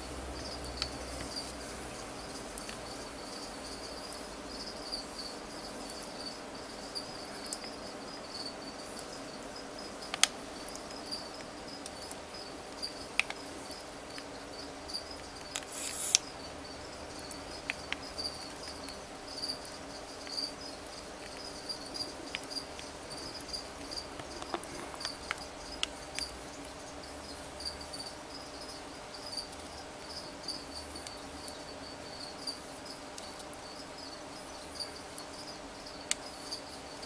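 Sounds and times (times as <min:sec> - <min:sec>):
insect chirping trill: 0:00.0 - 0:37.0.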